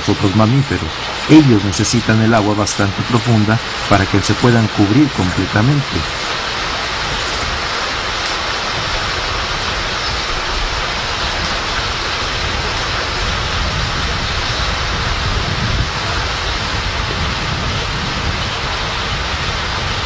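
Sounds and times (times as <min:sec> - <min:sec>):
outdoor rushing hiss: 0:00.0 - 0:20.0.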